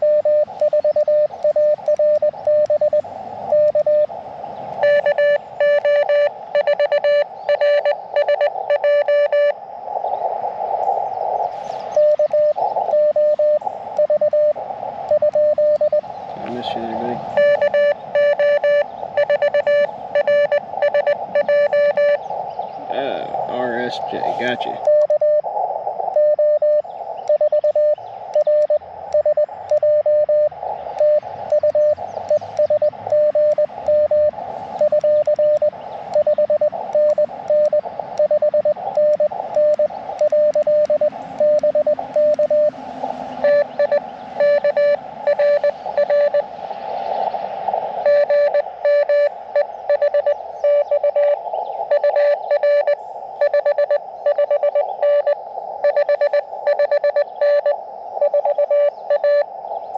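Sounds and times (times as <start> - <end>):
morse code tone: 0.0 - 4.1, 4.8 - 9.6, 12.0 - 22.2, 23.9 - 25.5, 26.1 - 42.8, 43.4 - 46.5, 48.0 - 59.5
receiver hiss: 0.0 - 59.9.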